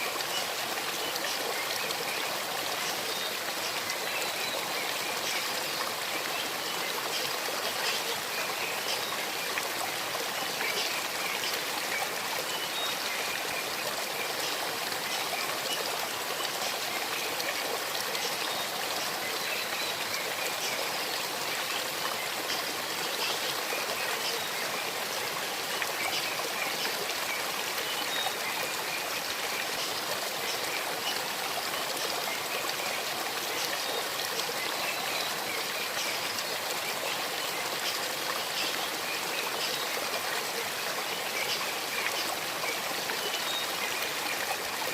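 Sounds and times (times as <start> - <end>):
stream babbling over stones: 0.0 - 44.9.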